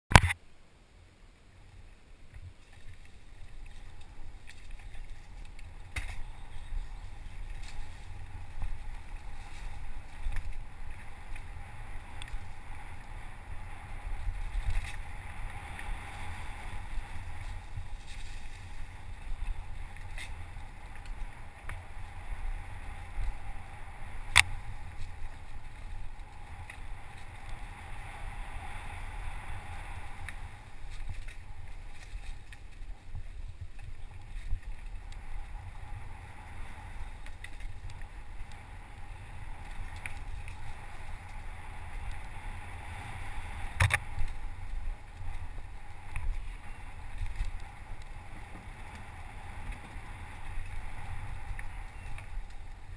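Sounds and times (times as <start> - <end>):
bike tyre noise: 1.5 - 52.9
wind buffeting microphone: 2.4 - 52.9.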